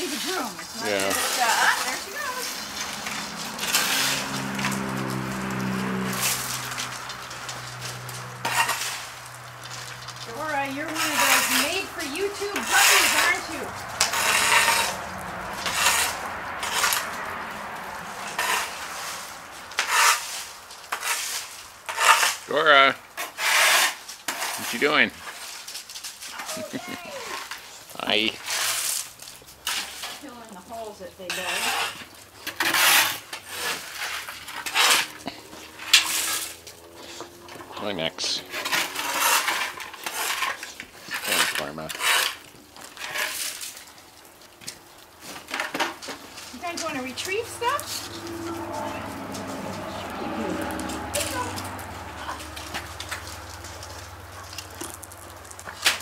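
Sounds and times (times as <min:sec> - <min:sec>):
broom sweeping paving: 0:00.0 - 0:22.6, 0:23.2 - 0:56.0.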